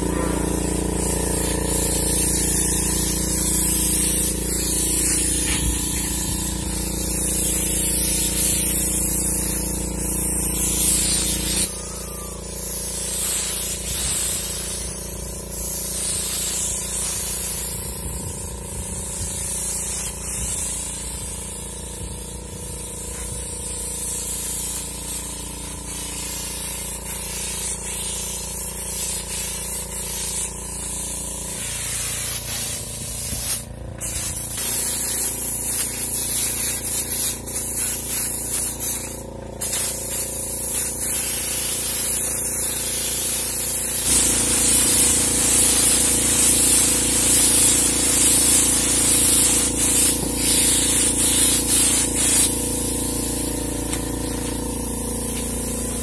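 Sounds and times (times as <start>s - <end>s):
air compressor humming: 0.0s - 56.0s
spray gun hissing: 0.0s - 56.0s.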